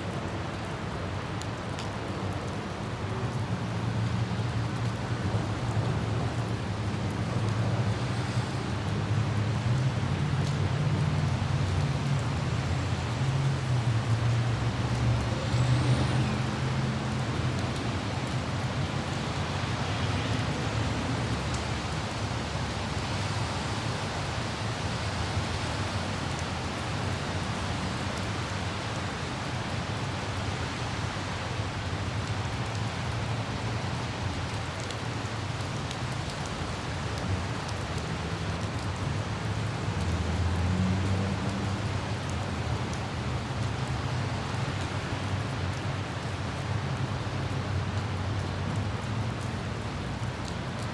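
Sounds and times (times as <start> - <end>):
city traffic on wet roads: 0.0 - 50.9
light rain hissing: 0.0 - 50.9.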